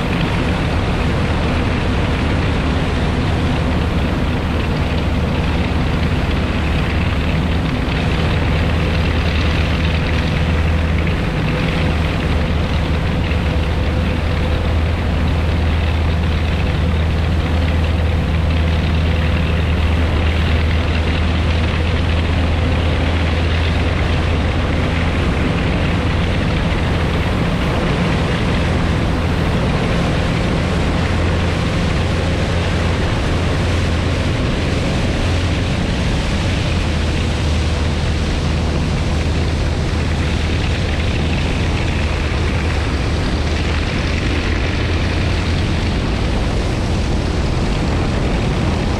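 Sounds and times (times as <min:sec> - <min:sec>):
aircraft engines droning: 0:00.0 - 0:48.9.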